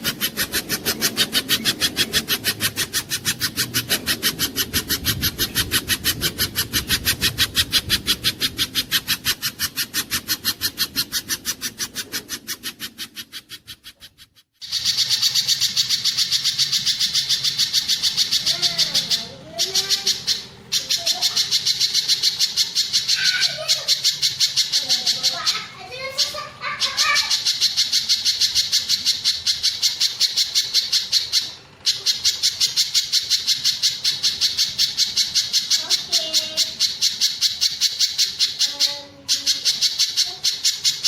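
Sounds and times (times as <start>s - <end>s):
bird sharp chipping notes: 0.0s - 41.0s.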